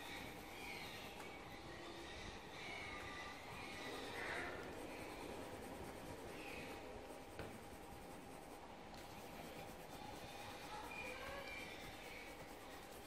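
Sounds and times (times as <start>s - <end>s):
colored pencil scratching on paper: 0.0s - 13.0s.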